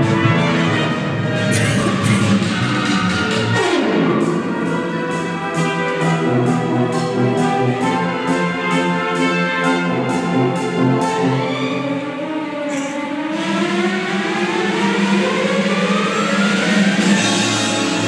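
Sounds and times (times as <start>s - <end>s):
brass and orchestra playing film music: 0.0s - 18.0s.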